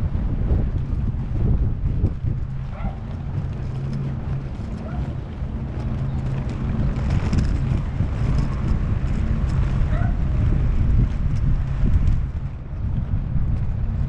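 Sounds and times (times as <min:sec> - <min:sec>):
steady low hum: 0:00.0 - 0:14.0
wind buffeting microphone: 0:00.0 - 0:14.0.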